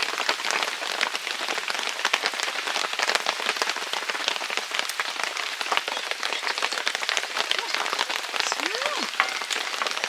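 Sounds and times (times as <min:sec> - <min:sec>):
heavy rain patter: 0:00.0 - 0:10.0.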